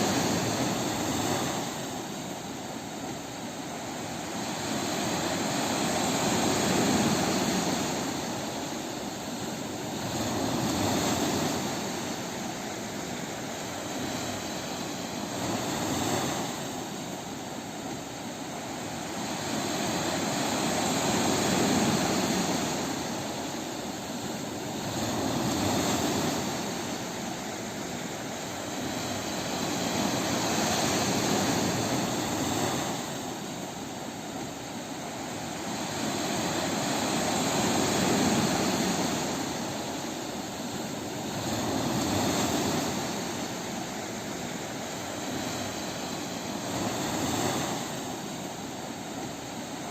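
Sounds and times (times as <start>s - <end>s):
ocean waves on a beach: 0.0s - 49.9s.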